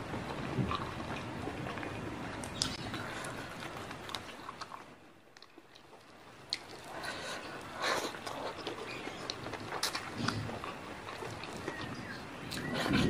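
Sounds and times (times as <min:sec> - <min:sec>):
crisp wet chewing: 0:00.0 - 0:13.0.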